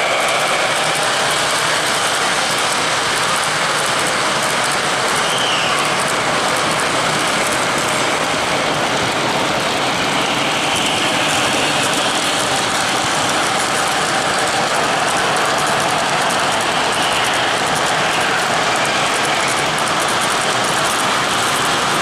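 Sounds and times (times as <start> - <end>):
model trains rolling on track: 0.0 - 22.0.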